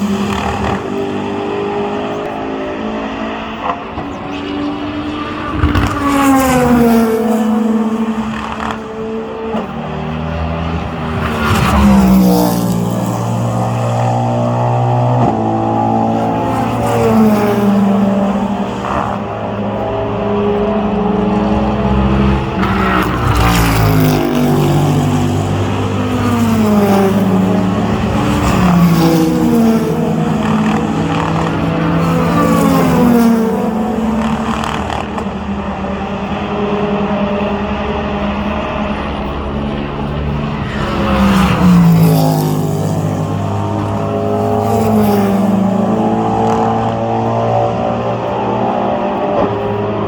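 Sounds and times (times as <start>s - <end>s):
race cars passing: 0.0s - 50.0s.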